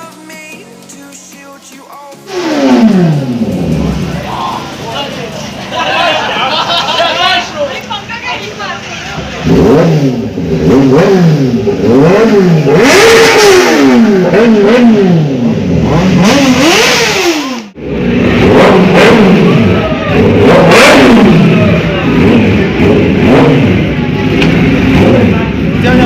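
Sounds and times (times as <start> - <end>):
motorbike engines revving: 2.3 - 26.0.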